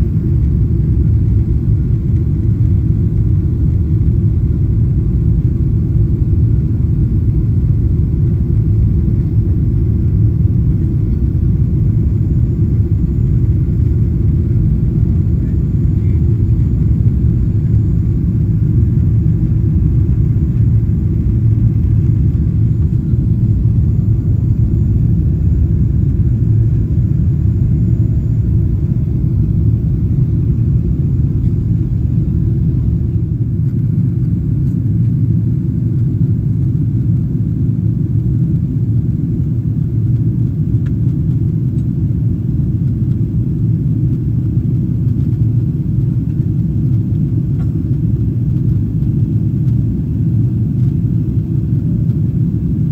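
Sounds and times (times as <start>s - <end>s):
jet engines at climb power: 0.0s - 52.9s.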